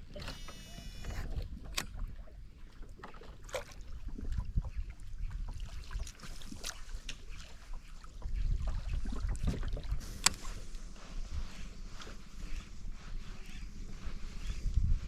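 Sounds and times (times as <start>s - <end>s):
low water rumble: 0.0s - 15.0s.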